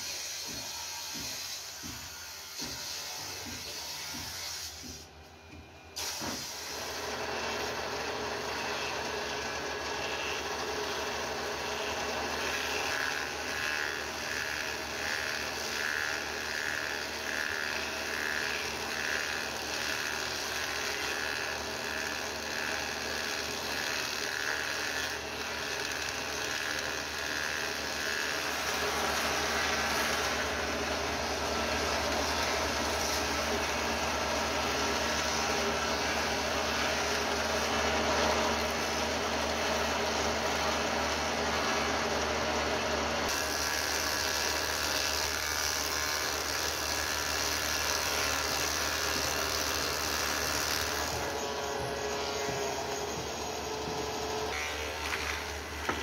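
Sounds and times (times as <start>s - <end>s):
power tool running on wood: 0.0s - 5.2s, 6.0s - 56.0s.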